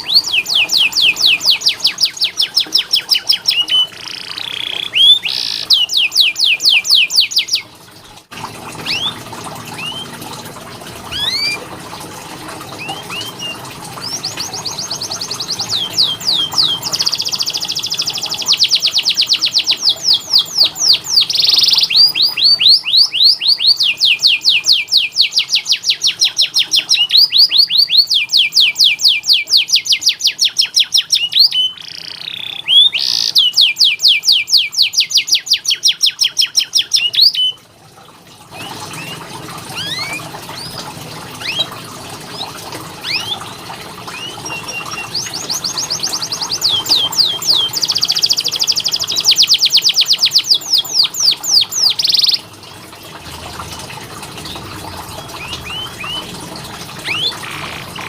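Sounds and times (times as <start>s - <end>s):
canary singing trills: 0.0s - 7.7s, 8.8s - 10.2s, 11.1s - 11.7s, 12.7s - 37.6s, 38.5s - 52.5s, 54.4s - 56.4s, 57.0s - 58.0s.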